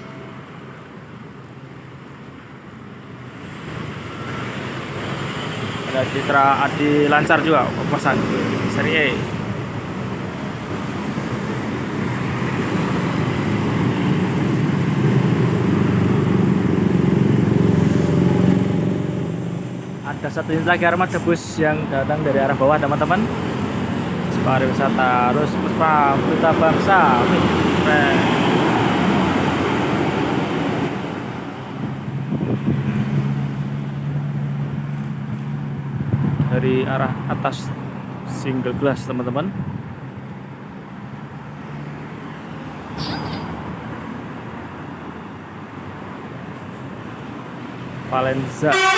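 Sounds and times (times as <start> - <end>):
bus passing on road: 0.0 - 48.9
vehicle engines running: 0.0 - 48.9.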